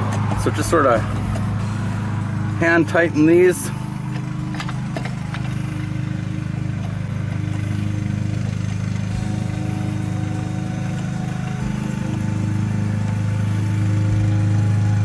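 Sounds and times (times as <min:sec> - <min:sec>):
engine droning steadily: 0:00.0 - 0:15.0.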